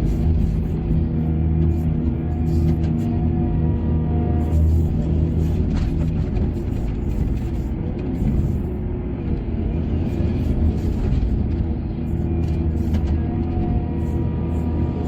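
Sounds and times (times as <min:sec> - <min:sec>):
heavy machinery engine rumbling: 0:00.0 - 0:15.0.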